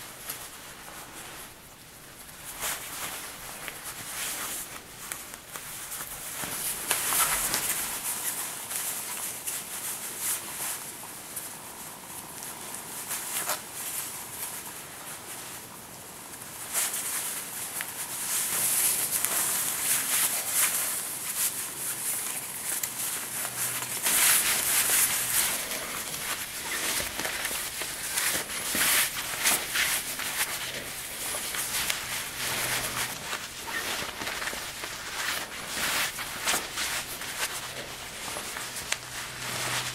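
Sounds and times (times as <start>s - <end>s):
necktie fabric rustling: 0.0s - 10.9s, 16.4s - 39.9s.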